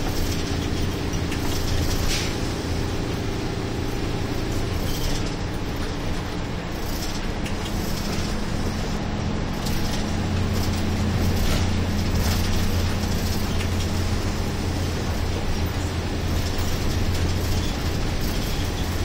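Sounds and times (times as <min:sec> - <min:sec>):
diesel bus engine droning: 0:00.0 - 0:19.0
road and tyre noise: 0:00.0 - 0:19.0.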